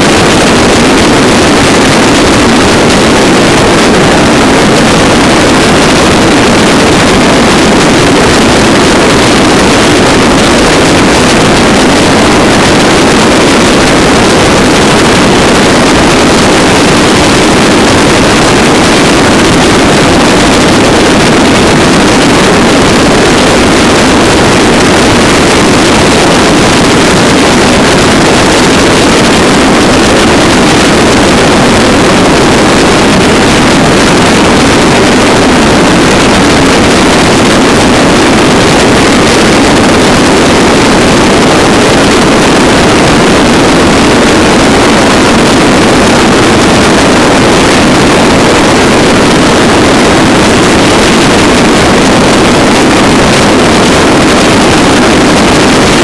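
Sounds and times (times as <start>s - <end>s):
motorcycle engine drone: 0.0s - 56.0s
wind rushing on microphone: 0.0s - 56.0s.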